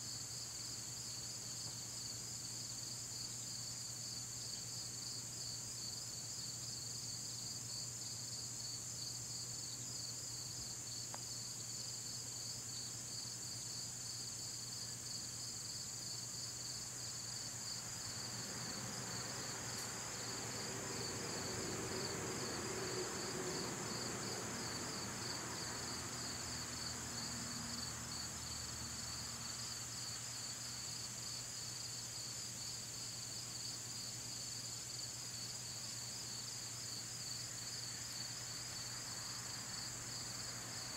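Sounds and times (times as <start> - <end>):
insects buzzing and trilling: 0.0 - 40.9.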